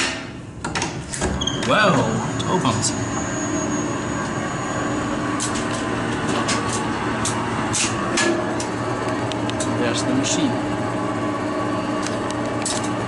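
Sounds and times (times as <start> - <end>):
machinery hum and whir: 0.0 - 13.0.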